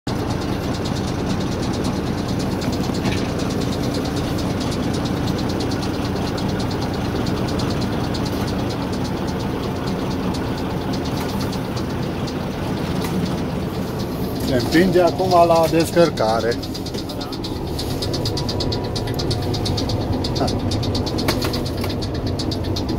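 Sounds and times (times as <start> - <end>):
locomotive diesel engine running: 0.0 - 22.9
wagons clattering: 0.1 - 22.9.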